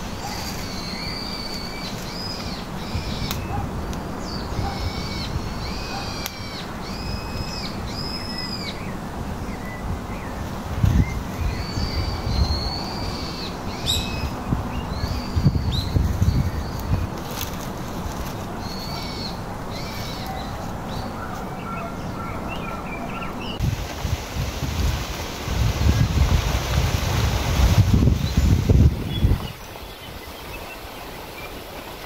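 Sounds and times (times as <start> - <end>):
birds calling: 0.0 - 23.7, 28.0 - 32.0
steady background noise: 0.0 - 32.0.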